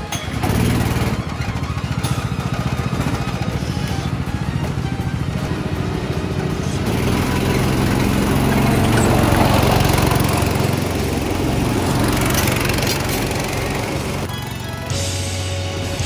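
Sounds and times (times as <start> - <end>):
go-kart engines revving: 0.0 - 16.0.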